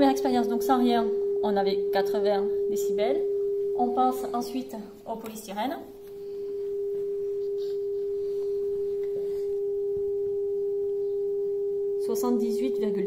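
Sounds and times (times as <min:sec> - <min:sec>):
steady test tone from loudspeaker: 0:00.0 - 0:13.0.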